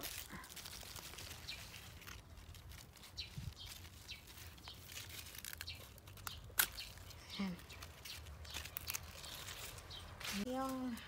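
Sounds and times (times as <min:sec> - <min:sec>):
leaves rustling: 0:00.0 - 0:11.0
soil crackling: 0:00.0 - 0:11.0.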